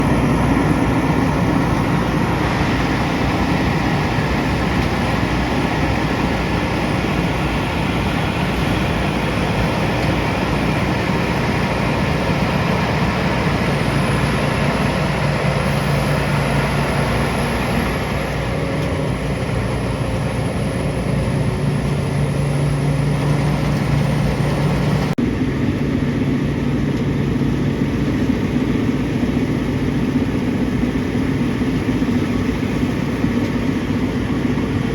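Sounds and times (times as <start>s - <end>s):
heavy engine running: 0.0s - 34.9s.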